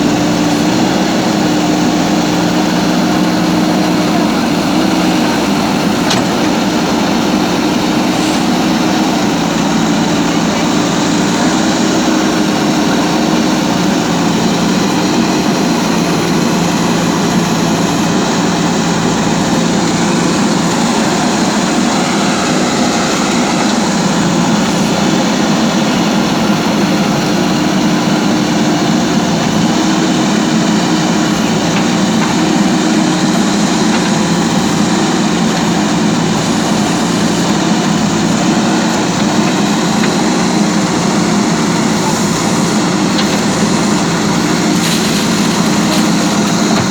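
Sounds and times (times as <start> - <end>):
diesel engine running steadily: 0.0 - 46.9.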